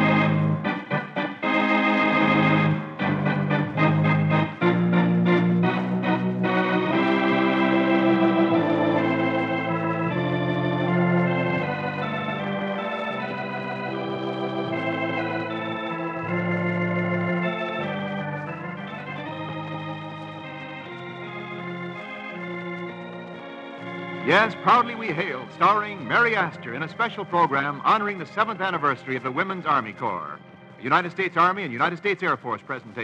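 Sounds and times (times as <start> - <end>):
organ playing held chords: 0.0 - 33.0.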